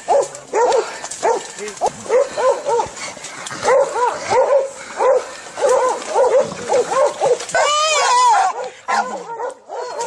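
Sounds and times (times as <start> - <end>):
dog barking rapidly: 0.0 - 2.9, 3.6 - 10.0.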